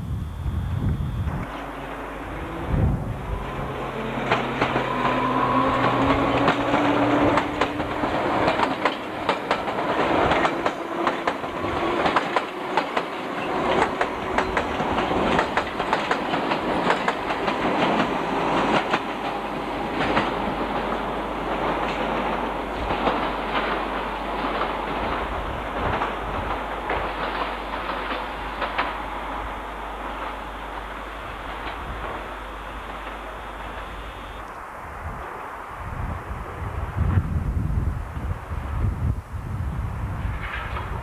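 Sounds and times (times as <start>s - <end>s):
train motor whine: 0.0s - 34.6s
train wheels clattering over rail joints: 1.4s - 33.9s, 40.2s - 41.0s.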